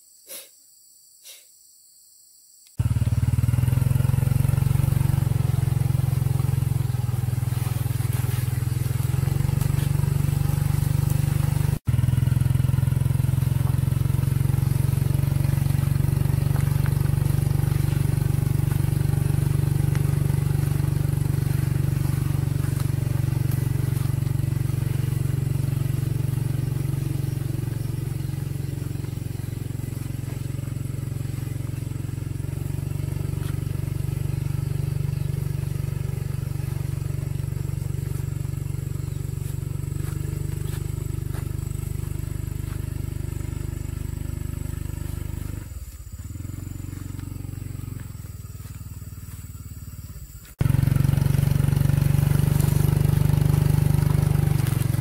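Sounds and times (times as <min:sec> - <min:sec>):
small motorbike engine running: 0:02.8 - 0:55.0.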